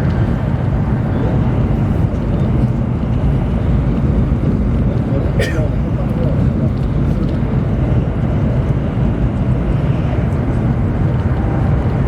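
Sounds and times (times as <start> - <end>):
train running noise inside car: 0.0 - 12.0.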